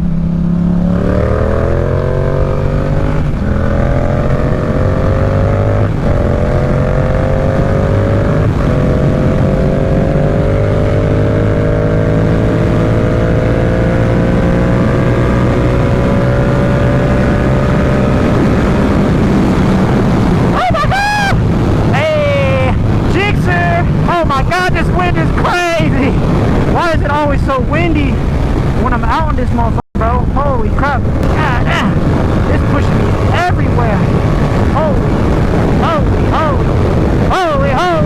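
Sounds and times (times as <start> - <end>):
motorcycle engine accelerating: 0.0 - 38.0
wind on microphone: 0.0 - 38.0.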